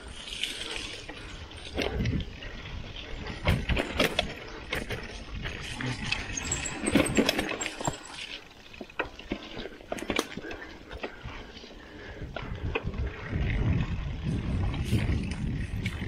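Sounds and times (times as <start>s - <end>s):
bike knocking and rattling: 0.0s - 16.0s
bike tyres on dirt: 0.0s - 16.0s.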